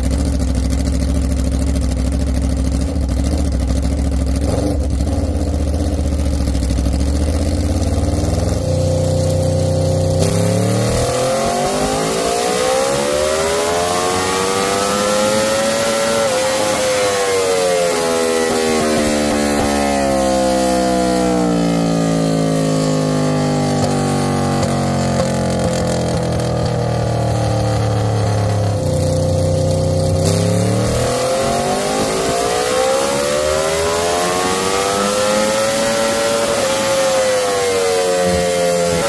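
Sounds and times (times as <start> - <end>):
motorcycle engine on dyno: 0.0 - 39.0.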